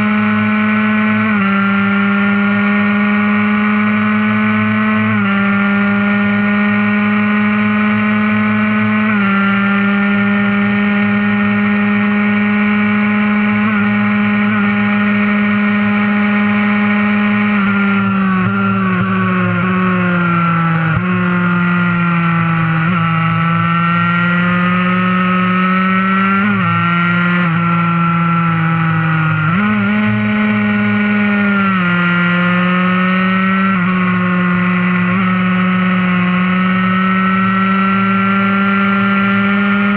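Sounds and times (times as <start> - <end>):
two-stroke engine revving high: 0.0 - 39.9.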